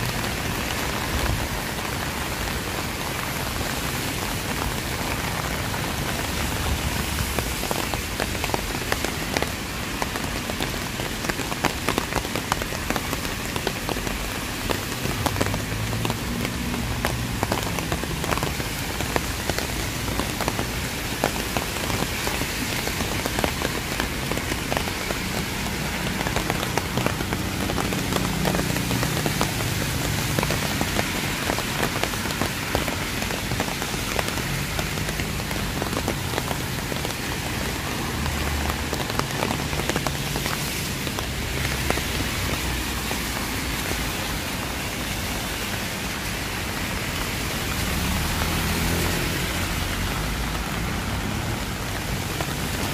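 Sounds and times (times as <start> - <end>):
raindrops ticking: 0.0 - 52.9
steady rain falling: 0.0 - 52.9.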